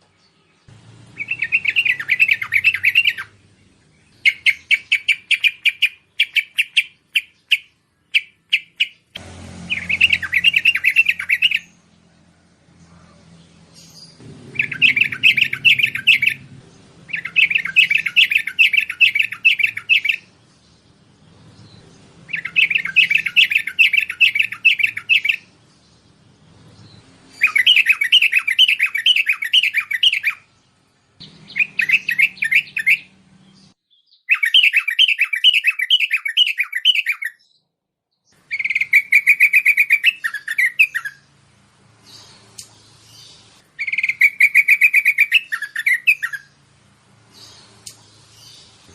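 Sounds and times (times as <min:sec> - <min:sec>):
bulbul chirping song: 0:00.0 - 0:12.1, 0:13.5 - 0:37.6, 0:38.2 - 0:41.4, 0:42.0 - 0:48.9.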